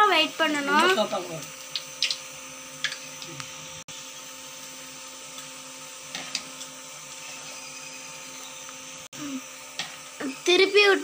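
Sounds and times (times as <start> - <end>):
oil sizzling: 0.0 - 11.0
steady hum: 0.0 - 11.0.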